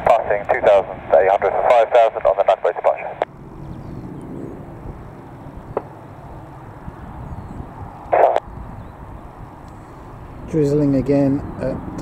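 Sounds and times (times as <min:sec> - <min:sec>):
distant helicopter rumble: 0:00.0 - 0:12.0.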